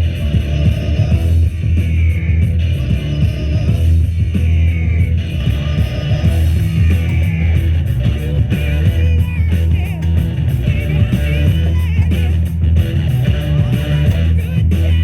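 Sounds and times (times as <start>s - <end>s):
rock music on radio: 0.0s - 15.0s.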